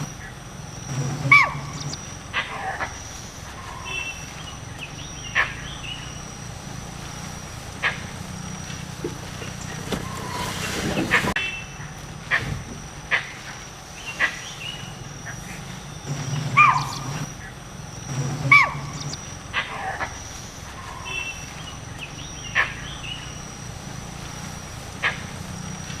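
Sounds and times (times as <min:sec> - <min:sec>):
low steady hum: 0:00.0 - 0:26.0
steady high whine: 0:00.0 - 0:26.0
wild animal calls: 0:00.0 - 0:26.0.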